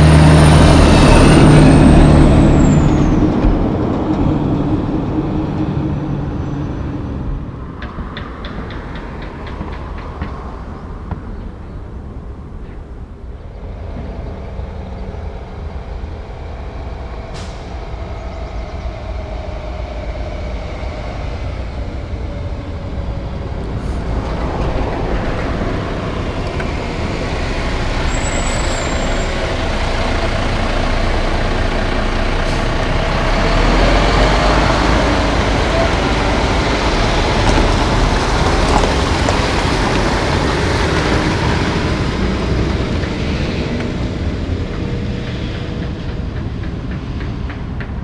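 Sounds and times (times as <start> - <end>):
truck diesel engine approaching: 0.0 - 48.0.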